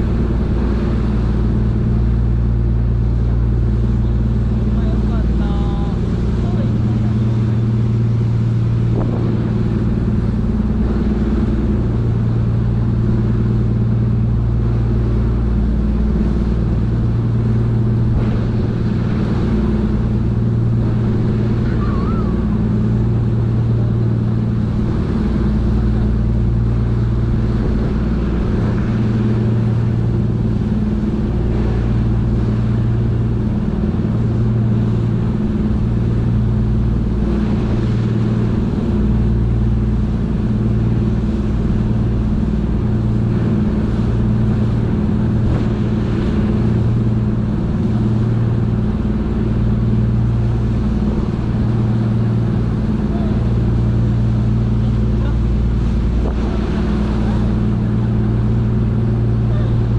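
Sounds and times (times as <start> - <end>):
boat engine low drone: 0.0 - 59.9
rushing boat wake: 0.0 - 59.9.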